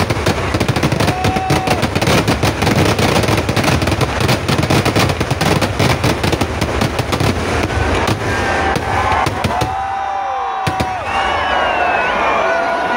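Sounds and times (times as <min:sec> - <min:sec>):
firework bangs: 0:00.0 - 0:11.7.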